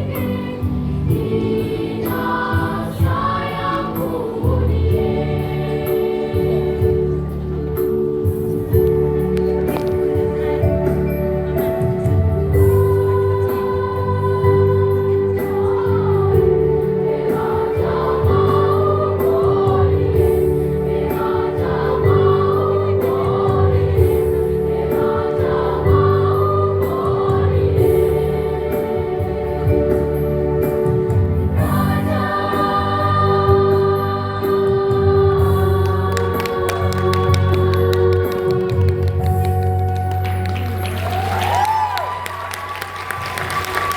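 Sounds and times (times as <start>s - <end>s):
choir singing in parts: 0.0s - 8.5s, 9.2s - 39.7s.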